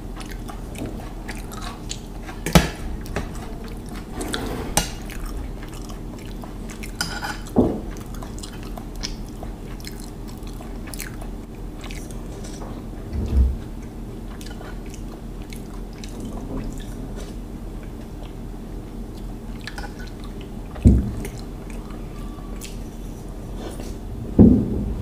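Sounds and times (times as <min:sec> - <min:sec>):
wet eating sounds: 0:00.0 - 0:24.0.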